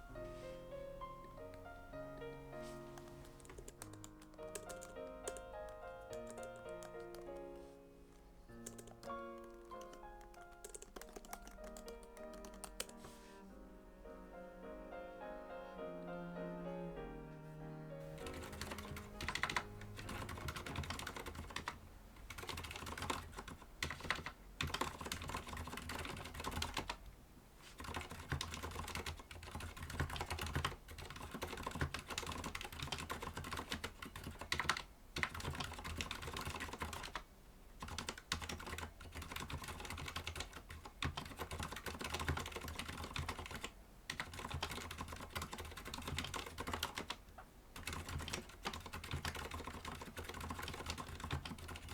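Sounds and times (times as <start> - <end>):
typing on mechanical keyboard: 2.9 - 7.5, 8.1 - 13.1, 18.2 - 27.0, 27.6 - 51.9.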